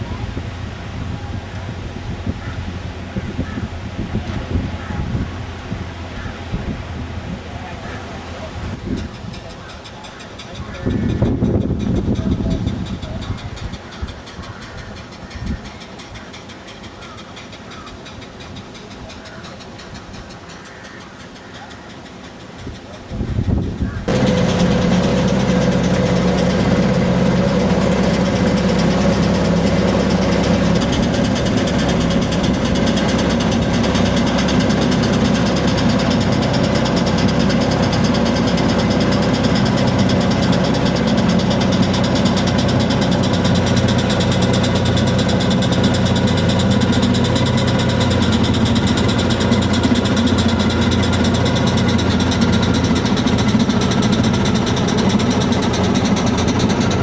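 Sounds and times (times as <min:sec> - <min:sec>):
steam engine running: 0:08.1 - 0:57.0.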